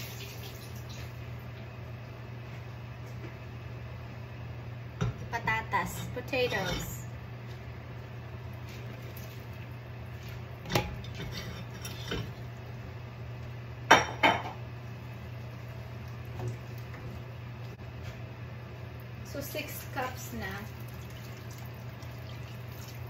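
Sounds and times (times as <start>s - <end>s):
steady low hum: 1.0s - 22.2s.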